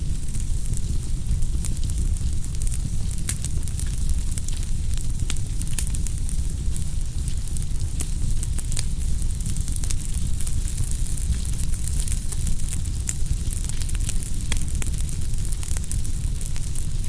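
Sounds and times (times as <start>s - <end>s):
low rumble of flames: 0.0s - 17.0s
wood crackling and popping: 0.0s - 17.0s.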